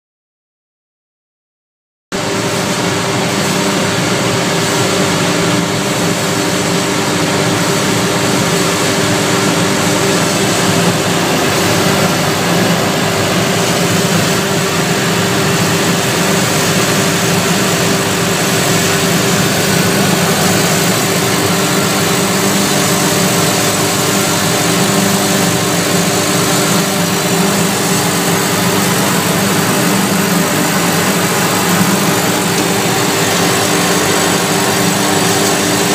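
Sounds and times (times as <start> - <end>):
machine hum: 2.2 - 35.9.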